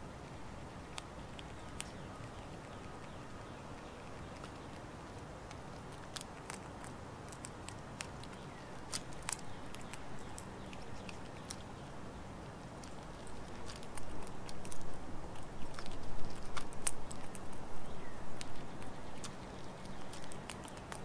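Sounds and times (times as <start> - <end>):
squirrel crunching and gnawing: 0.0 - 21.0.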